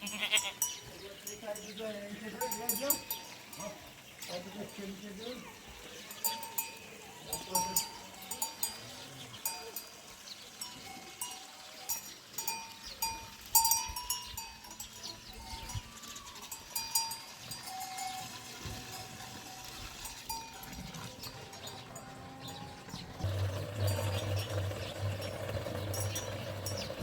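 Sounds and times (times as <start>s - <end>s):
livestock bells clanking: 0.0s - 27.0s.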